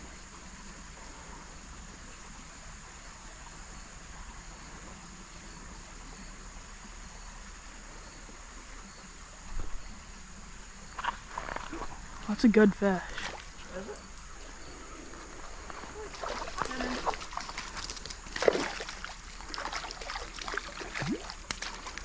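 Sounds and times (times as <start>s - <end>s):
small stream flowing: 0.0s - 22.0s.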